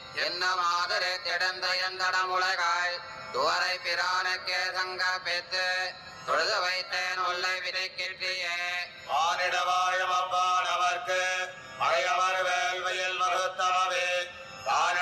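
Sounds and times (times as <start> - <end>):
men chanting devotional verse: 0.0 - 15.0.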